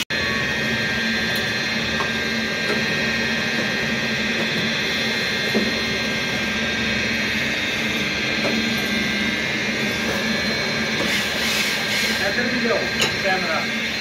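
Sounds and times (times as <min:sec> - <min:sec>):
workshop machinery hum and whine: 0:00.0 - 0:14.0.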